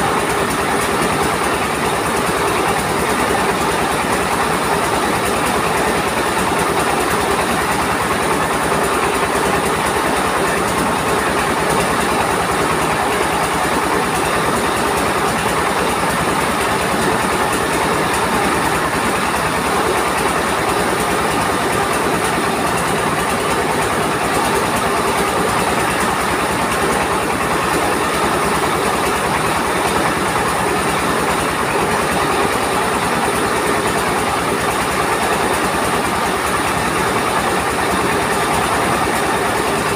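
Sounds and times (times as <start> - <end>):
rice mill machinery running: 0.0 - 39.9.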